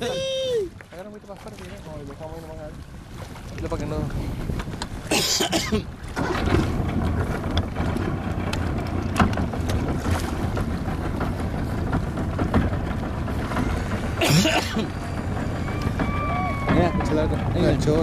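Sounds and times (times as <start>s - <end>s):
water lapping: 0.0s - 18.0s
wind buffeting microphone: 0.0s - 18.0s.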